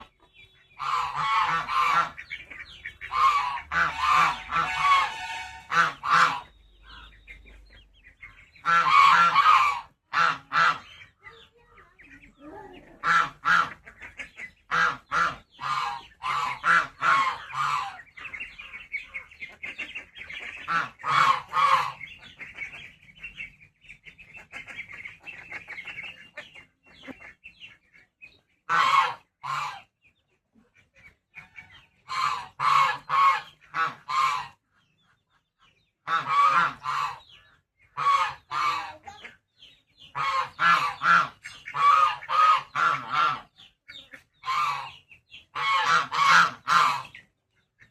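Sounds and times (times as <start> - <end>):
geese honking: 0.0 - 11.4, 12.0 - 30.2, 30.8 - 47.9.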